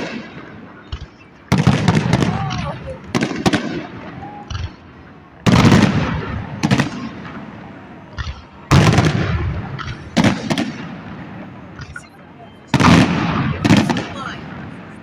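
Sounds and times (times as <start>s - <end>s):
fireworks exploding: 0.0s - 15.0s
sharp bangs: 0.0s - 15.0s.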